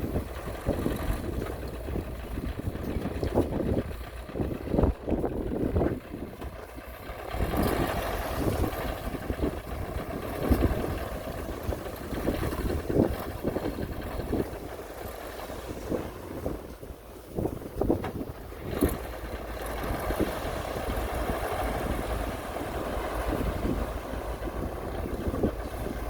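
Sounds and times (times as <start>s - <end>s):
heavy machinery engine running: 0.0s - 26.0s
wind buffeting microphone: 0.0s - 26.0s.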